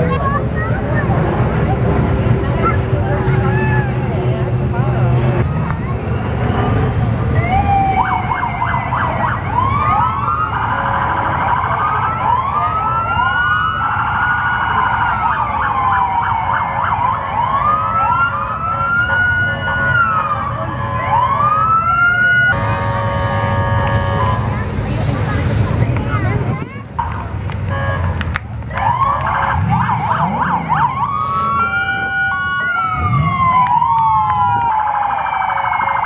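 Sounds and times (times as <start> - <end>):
emergency sirens wailing: 0.0 - 36.0.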